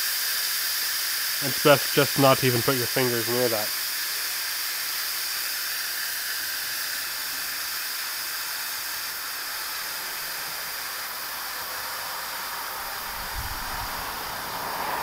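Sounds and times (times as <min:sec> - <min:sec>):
steam venting hiss: 0:00.0 - 0:15.0.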